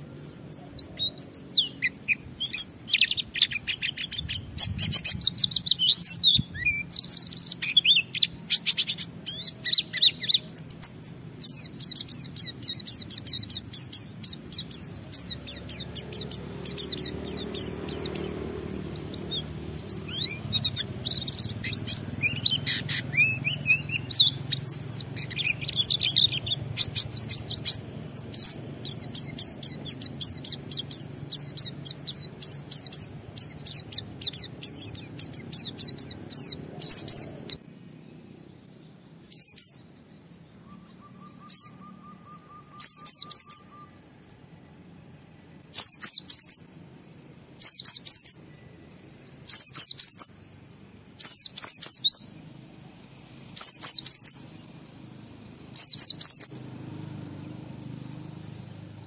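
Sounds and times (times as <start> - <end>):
white-eye bird singing: 0.0 - 59.0.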